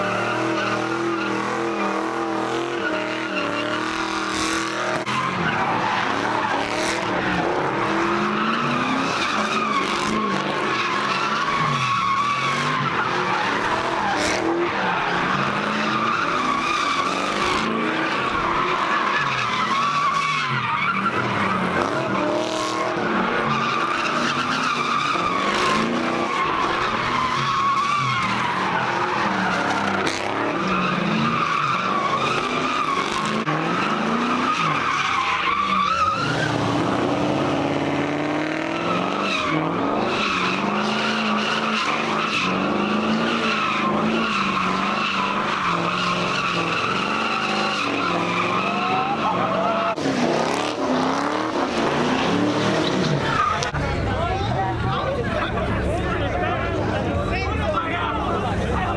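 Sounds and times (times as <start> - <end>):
tyres squealing: 0.0 - 53.9
engines revving high: 0.0 - 58.9.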